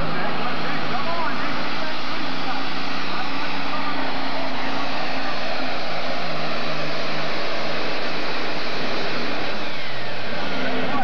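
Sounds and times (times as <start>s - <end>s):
tractor engine droning under load: 0.0s - 11.0s.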